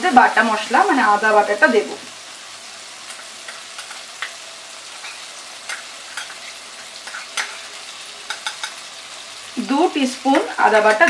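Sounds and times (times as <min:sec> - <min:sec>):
oil sizzling with crackles: 0:00.0 - 0:11.0.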